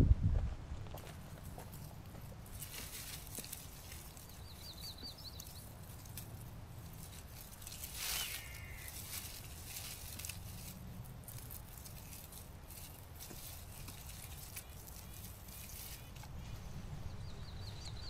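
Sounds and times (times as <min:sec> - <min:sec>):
wind rumbling on microphone: 0:00.0 - 0:18.0
rustle: 0:00.4 - 0:18.0.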